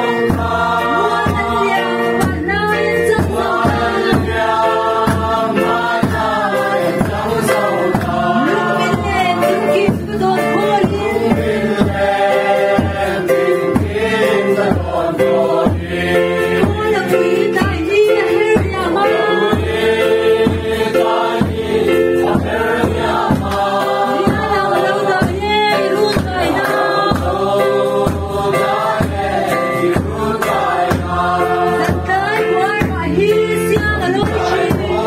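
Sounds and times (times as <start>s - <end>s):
crowd singing a hymn: 0.0s - 35.0s
steady regular beat: 0.0s - 35.0s.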